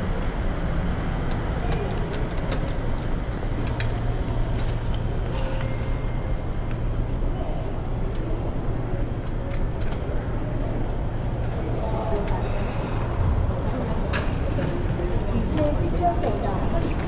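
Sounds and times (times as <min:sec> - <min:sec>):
train hum and rumble: 0:00.0 - 0:17.0.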